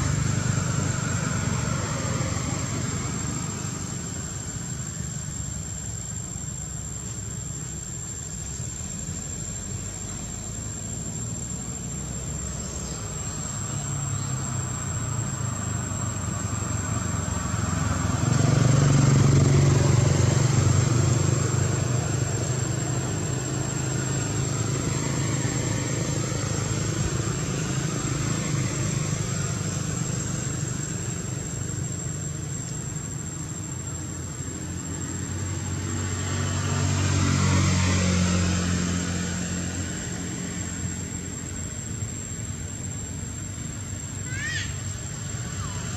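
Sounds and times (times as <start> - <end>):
vehicle engine rumble: 0.0 - 45.9.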